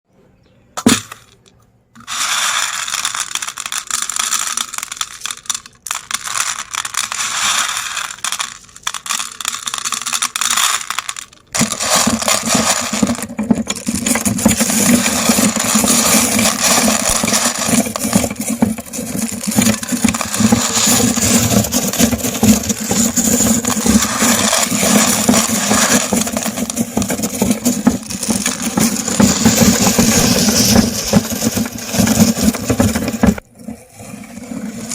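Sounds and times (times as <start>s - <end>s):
candies rattling in a grinder: 2.0s - 33.4s
candy crunching: 2.1s - 32.6s.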